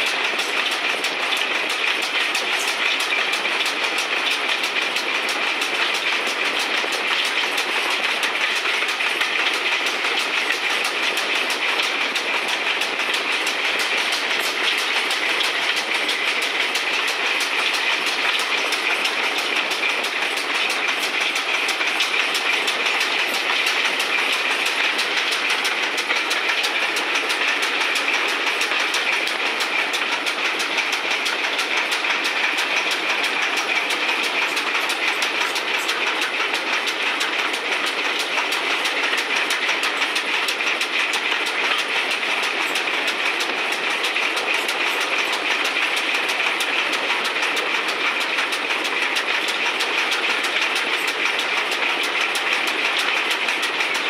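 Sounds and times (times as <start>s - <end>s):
train wheels clicking on rail: 0.0s - 54.0s.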